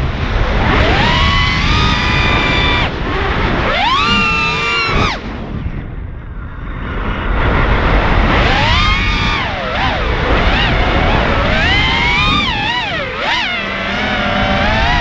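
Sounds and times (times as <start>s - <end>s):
drone motors whining: 0.0s - 5.6s, 8.0s - 15.0s
wind rushing on microphone: 0.0s - 15.0s.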